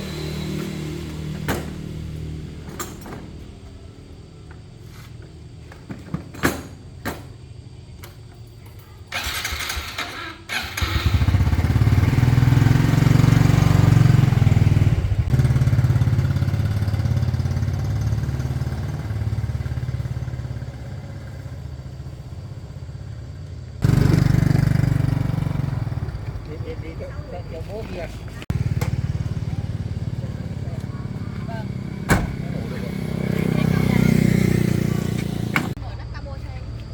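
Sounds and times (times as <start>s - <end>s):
vehicle engine running: 0.0s - 5.2s, 10.8s - 36.9s.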